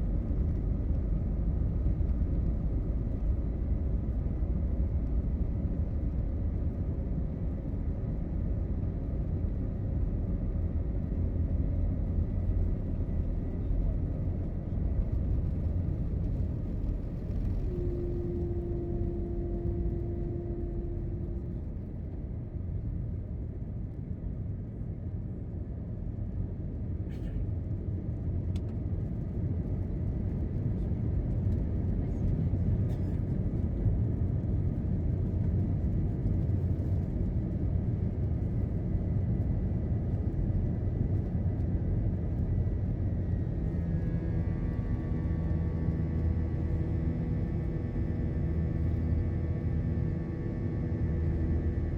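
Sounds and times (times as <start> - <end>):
steady low tone: 0.0 - 24.9, 27.2 - 51.9
airplane cabin rumble: 0.0 - 51.9.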